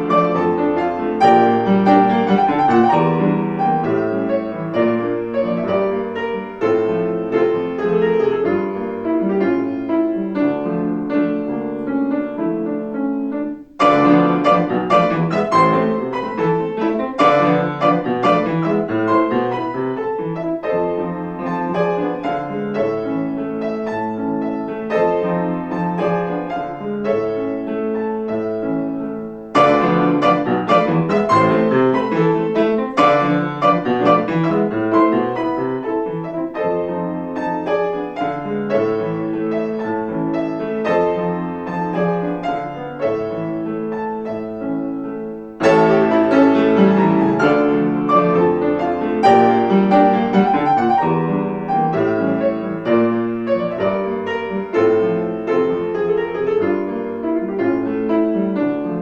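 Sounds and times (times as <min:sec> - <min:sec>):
classical piano music: 0:00.0 - 0:59.0.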